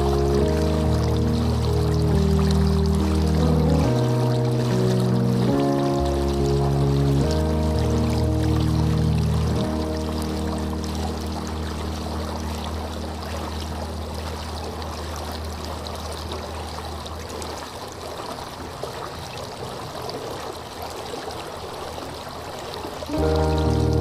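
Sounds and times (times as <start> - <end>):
stream trickling and splashing: 0.0 - 24.0.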